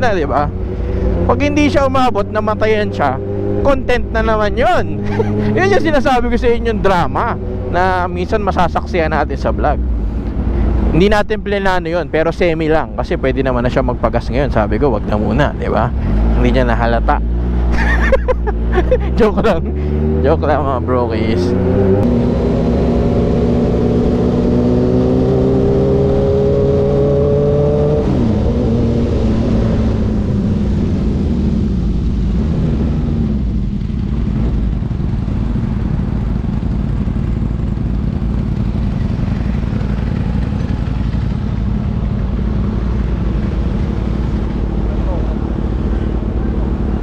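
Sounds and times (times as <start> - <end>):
motorcycle engine revving: 0.0 - 11.0, 14.7 - 47.0.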